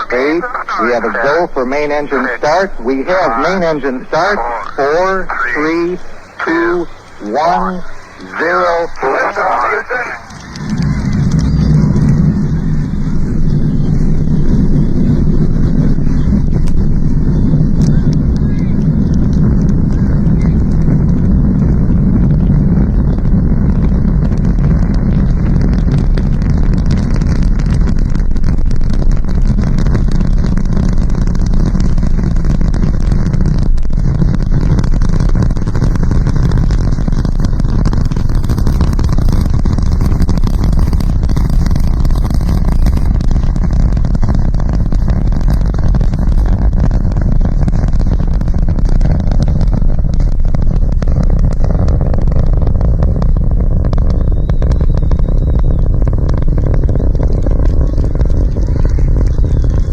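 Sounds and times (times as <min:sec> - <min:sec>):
rocket engines rumbling and crackling: 0:00.0 - 0:59.9.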